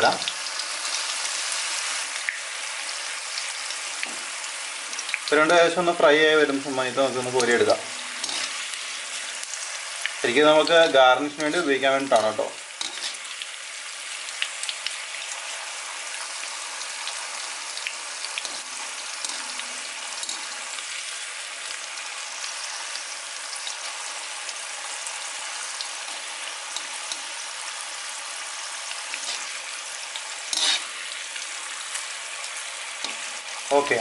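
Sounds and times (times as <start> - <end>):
chillies sizzling in hot oil: 0.0 - 34.0.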